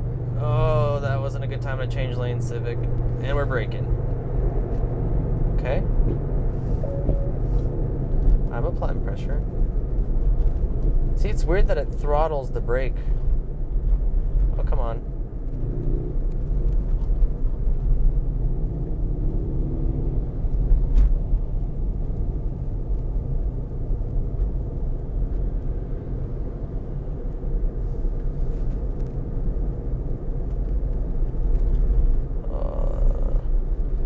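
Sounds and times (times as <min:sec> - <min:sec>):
tyre and road rumble: 0:00.0 - 0:34.0.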